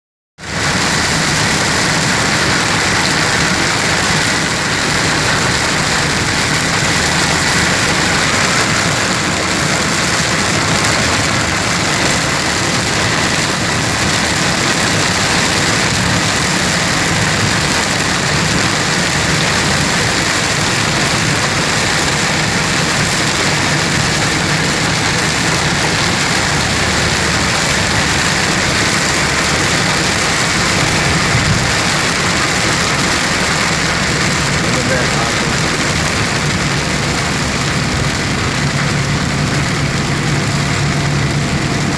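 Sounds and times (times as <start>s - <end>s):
heavy rain: 0.4s - 41.9s.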